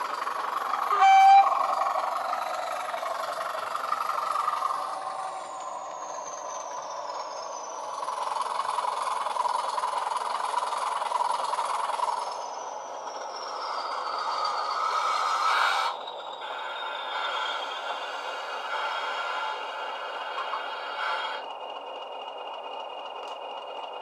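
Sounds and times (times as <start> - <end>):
model diesel locomotive sound: 0.0 - 24.0.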